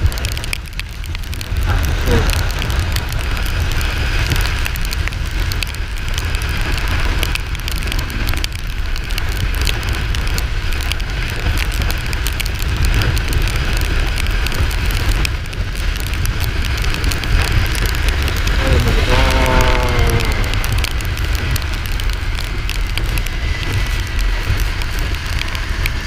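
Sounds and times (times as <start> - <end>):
crackling ticks: 0.0 - 26.0
wind rumbling on microphone: 0.0 - 26.0.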